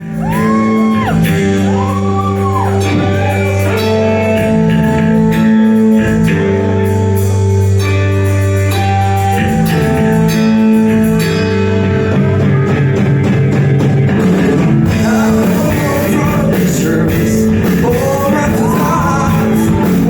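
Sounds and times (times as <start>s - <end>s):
guitar pitch glide: 0.0s - 20.0s
rock band playing: 0.0s - 20.0s.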